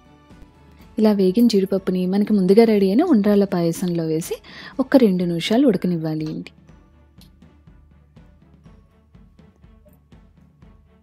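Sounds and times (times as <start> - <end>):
quiet background music with beat: 0.0 - 11.0.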